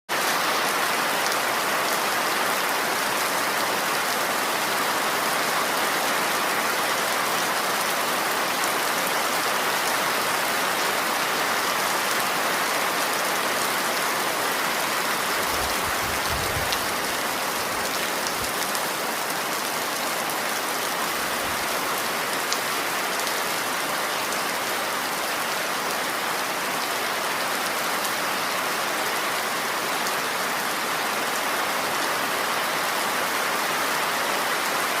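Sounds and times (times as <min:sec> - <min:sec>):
steady rain falling: 0:00.1 - 0:35.0.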